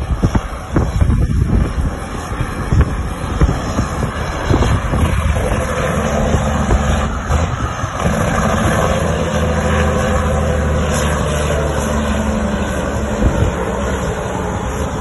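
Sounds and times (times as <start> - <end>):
diesel truck engine rumble: 0.0 - 15.0
road and wind noise: 0.0 - 15.0.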